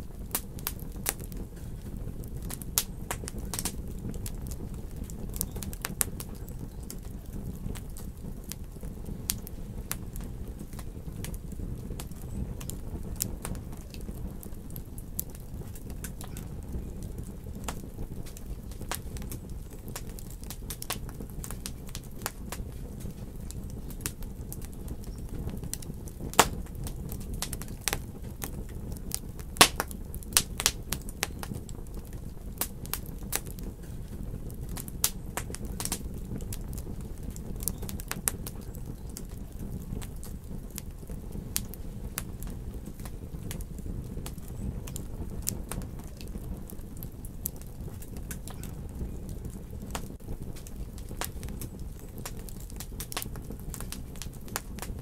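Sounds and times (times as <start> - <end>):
low rumble of flames: 0.0 - 55.0
wood crackling and popping: 0.0 - 55.0.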